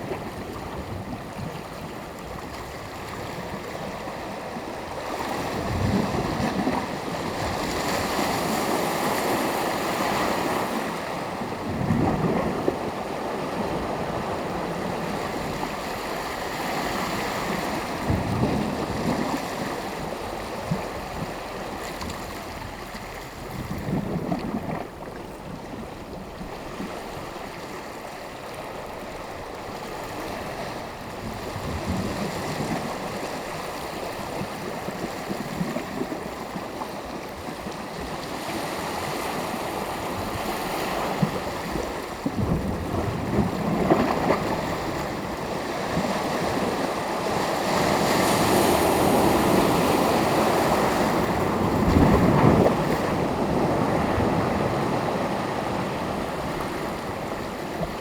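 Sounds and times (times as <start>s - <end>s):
small waves breaking ashore: 0.0s - 58.0s.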